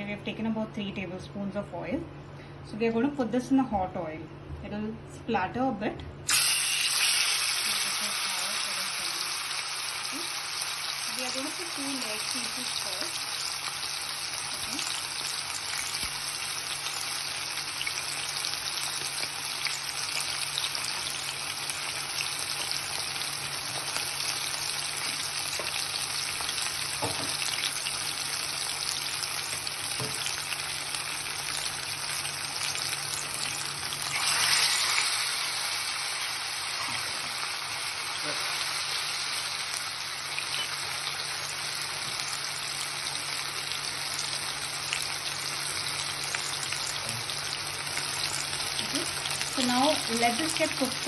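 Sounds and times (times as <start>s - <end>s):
chicken sizzling in hot oil: 6.3s - 51.0s.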